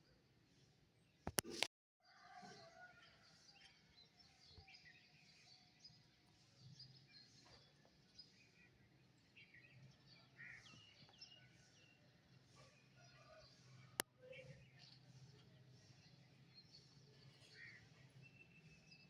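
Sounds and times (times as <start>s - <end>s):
songbirds chirping: 2.7s - 19.0s.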